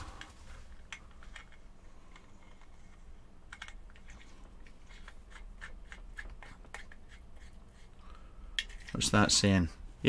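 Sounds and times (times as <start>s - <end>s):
faint clicks of threads screwing: 0.2s - 9.0s.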